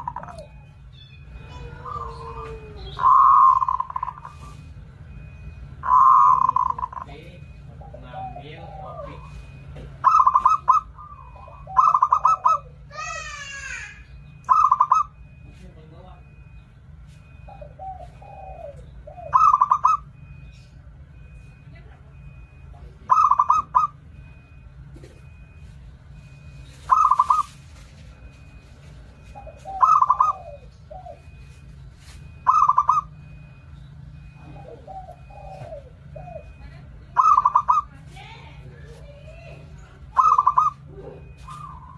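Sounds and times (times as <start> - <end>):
dove cooing: 0.0 - 15.4, 17.2 - 20.6, 21.2 - 25.6, 26.2 - 38.0, 38.6 - 41.9.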